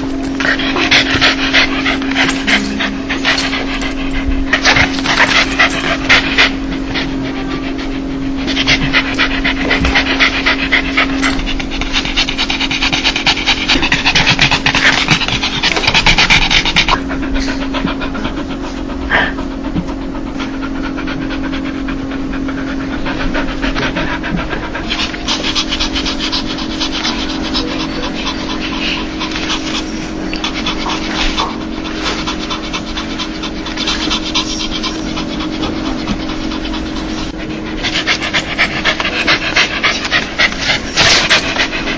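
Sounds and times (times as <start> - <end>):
dog panting rapidly: 0.0 - 41.9
steady low hum: 0.0 - 41.9.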